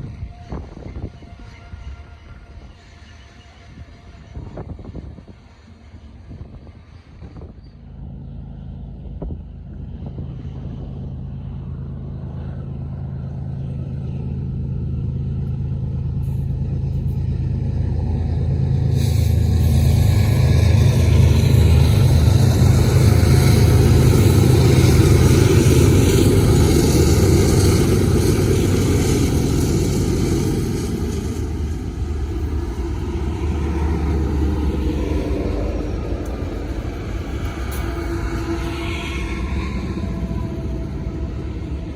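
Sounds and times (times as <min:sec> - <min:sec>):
locomotive engine drone: 0:00.0 - 0:41.9
train rolling noise: 0:00.0 - 0:41.9.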